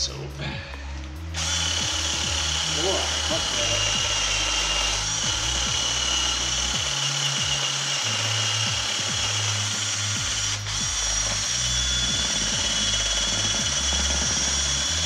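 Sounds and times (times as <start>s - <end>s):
background music with bass line: 0.0s - 15.0s
cordless drill whirring: 1.3s - 15.0s.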